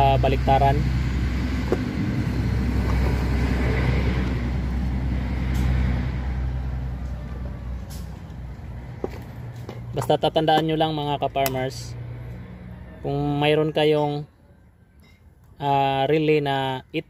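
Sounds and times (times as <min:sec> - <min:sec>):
vehicle engine rumble: 0:00.0 - 0:13.7.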